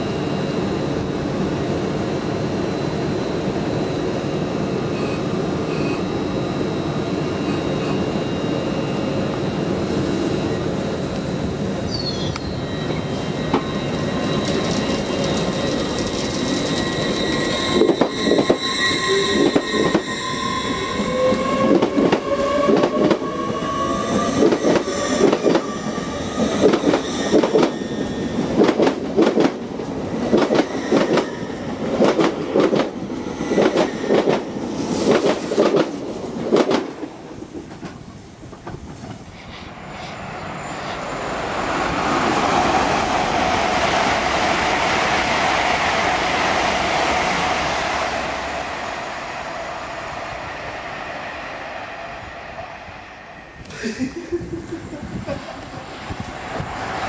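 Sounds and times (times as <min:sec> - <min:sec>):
train approaching: 0:00.0 - 0:57.0
train traction whine: 0:00.0 - 0:57.0.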